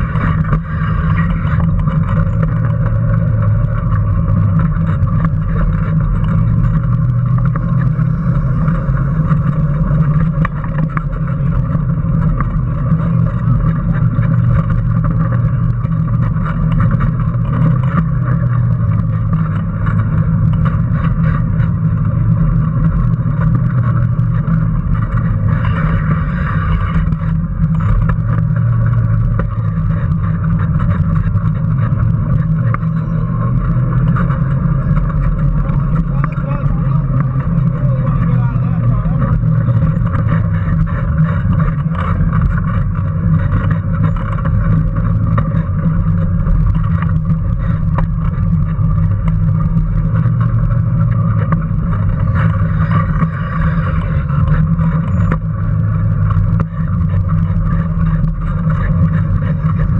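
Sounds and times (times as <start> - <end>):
car clicks and rattles: 0.0 - 59.9
electric motor hum: 0.0 - 59.9.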